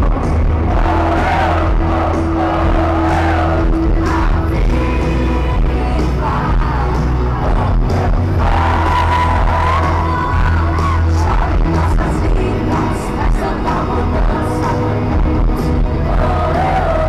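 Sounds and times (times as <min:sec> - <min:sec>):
person singing: 0:00.0 - 0:17.0
worship music with heavy bass: 0:00.0 - 0:17.0.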